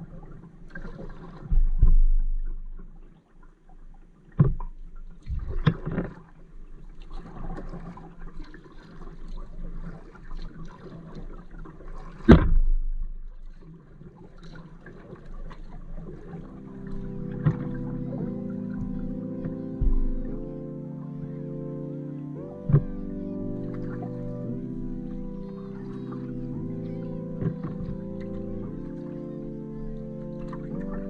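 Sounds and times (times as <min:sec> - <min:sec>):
paddle dipping in water: 0:00.0 - 0:31.0.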